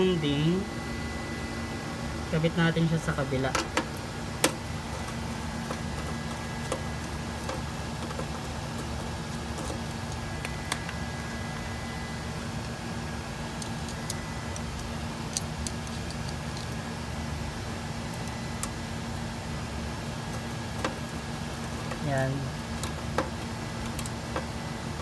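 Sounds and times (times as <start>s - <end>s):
fan hum: 0.0s - 25.0s.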